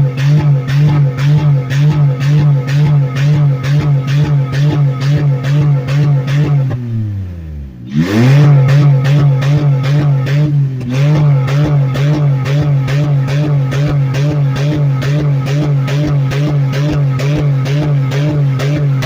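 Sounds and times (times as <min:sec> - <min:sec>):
engine bouncing off rev limiter: 0:00.0 - 0:19.0.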